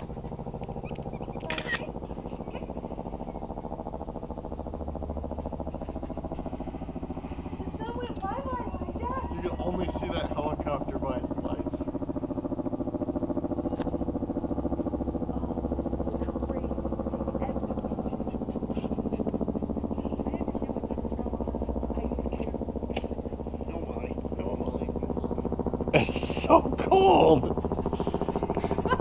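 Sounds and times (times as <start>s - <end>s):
low pulsing mechanical hum: 0.0s - 29.0s.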